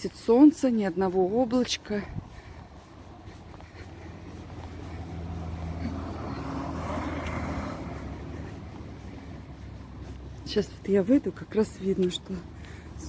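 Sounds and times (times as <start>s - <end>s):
vehicle passing by: 1.8s - 13.0s.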